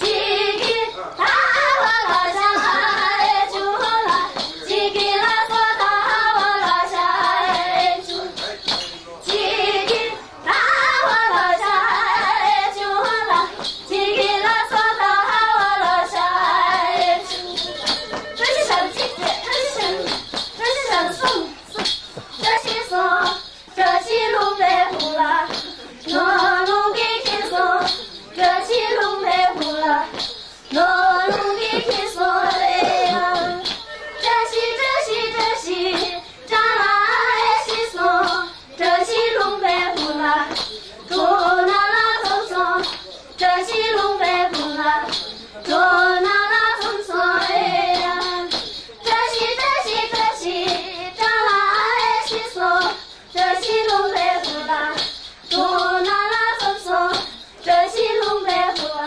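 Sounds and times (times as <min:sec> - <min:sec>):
steady beat of sharp taps: 0:00.0 - 0:59.0
women singing in high voices: 0:00.0 - 0:59.0.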